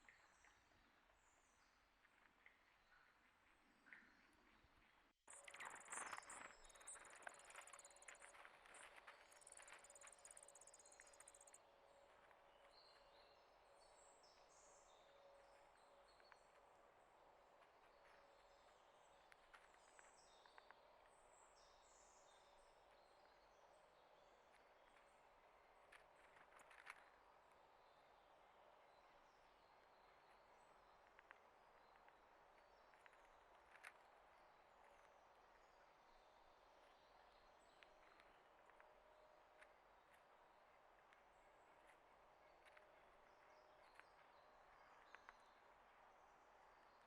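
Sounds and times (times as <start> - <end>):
small birds chirping: 5.3 - 47.0.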